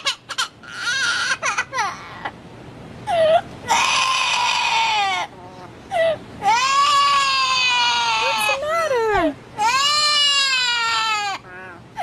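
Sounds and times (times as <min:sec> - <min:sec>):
baby crying: 0:00.0 - 0:02.3, 0:03.1 - 0:08.7, 0:09.6 - 0:12.0.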